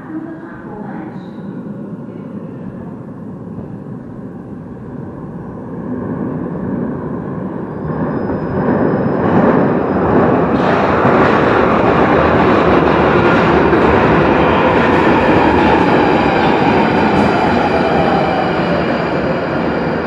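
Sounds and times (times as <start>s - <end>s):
train rumble and rush of air: 0.0s - 20.0s.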